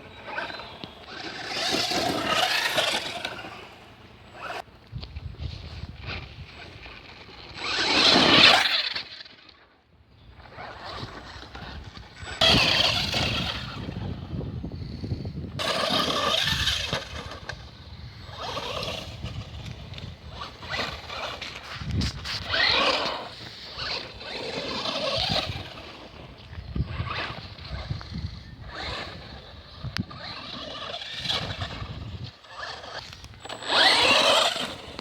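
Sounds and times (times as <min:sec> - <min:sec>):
electric rc buggy accelerating: 0:00.0 - 0:04.7, 0:05.4 - 0:09.7, 0:10.4 - 0:35.0.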